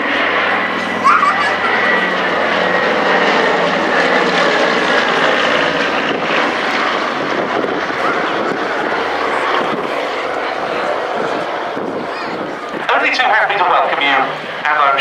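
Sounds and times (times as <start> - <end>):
radial engines of plane flying past: 0.0 - 15.0.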